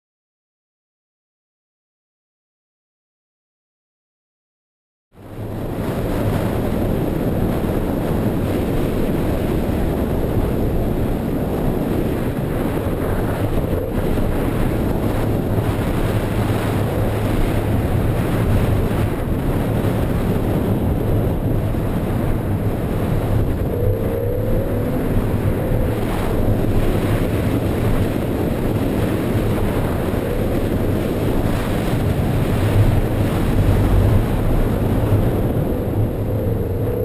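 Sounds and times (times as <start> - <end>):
wind noise: 5.1 - 37.0.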